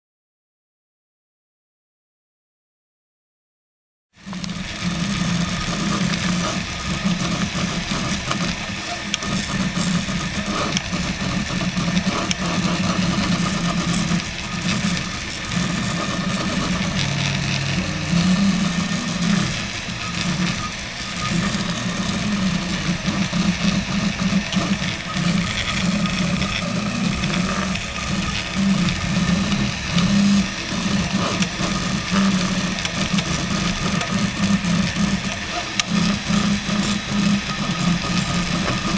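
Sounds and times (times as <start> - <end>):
stepper motors humming: 4.2 - 38.9.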